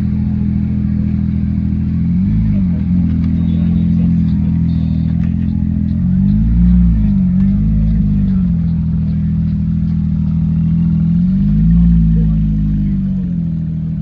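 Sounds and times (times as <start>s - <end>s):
car engine revving: 0.0s - 14.0s
car engine running at low revs: 0.0s - 14.0s.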